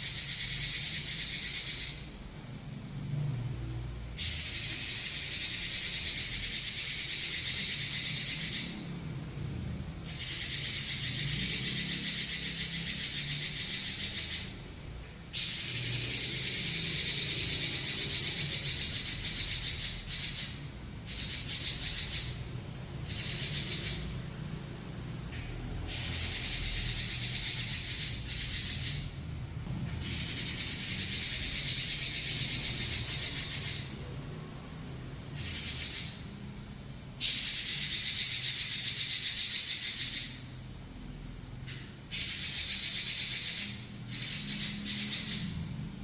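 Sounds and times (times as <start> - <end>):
bird singing rolling trills: 0.0 - 2.2, 4.2 - 24.8, 25.5 - 29.4, 30.0 - 40.6, 42.1 - 46.0.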